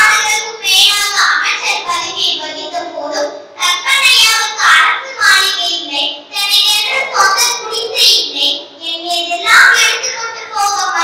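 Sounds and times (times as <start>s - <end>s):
girl speaking into a microphone: 0.0s - 11.0s.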